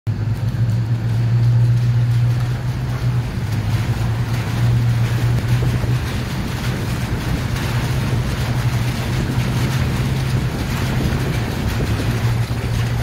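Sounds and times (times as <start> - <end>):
tyres running through water: 0.1 - 13.0
vehicle engine droning: 0.1 - 13.0.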